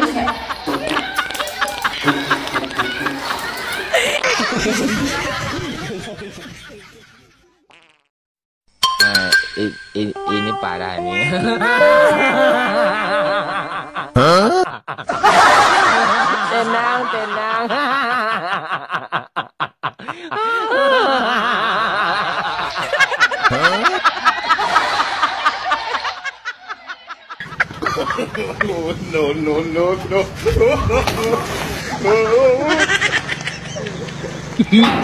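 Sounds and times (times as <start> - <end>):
laughter in ha-ha bursts: 0.0 - 7.5, 11.4 - 29.0, 30.4 - 35.0.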